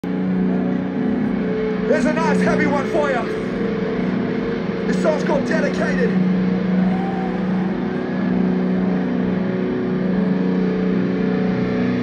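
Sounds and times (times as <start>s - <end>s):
distorted electric guitar droning: 0.0s - 12.0s.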